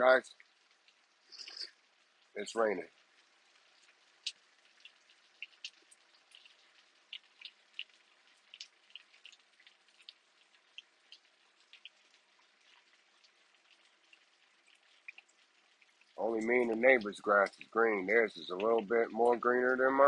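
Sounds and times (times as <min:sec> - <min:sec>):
raindrops tapping: 0:00.0 - 0:20.0
soft rain hiss: 0:00.0 - 0:20.0.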